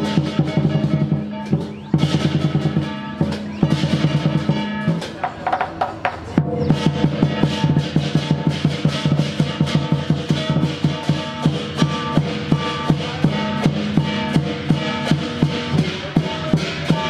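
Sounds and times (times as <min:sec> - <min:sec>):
large drum beating fast rhythm: 0:00.0 - 0:17.0.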